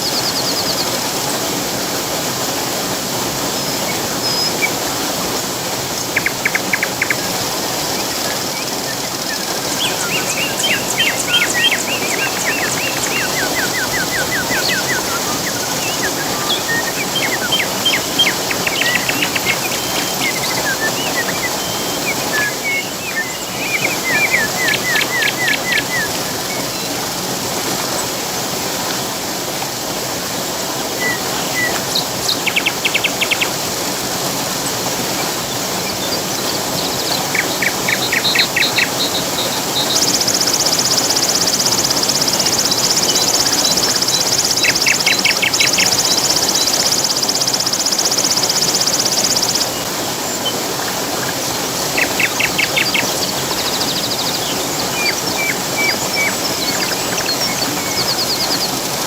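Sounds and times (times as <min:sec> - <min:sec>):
flowing water: 0:00.0 - 0:59.0
songbirds calling: 0:00.0 - 0:59.0.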